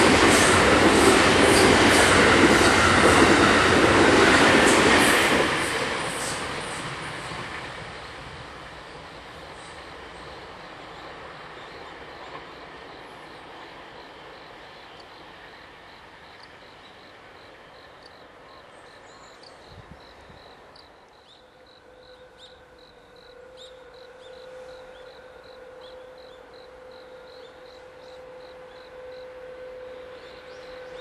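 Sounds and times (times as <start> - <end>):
electric train rumble: 0.0 - 31.0
insects chirping: 0.0 - 31.0.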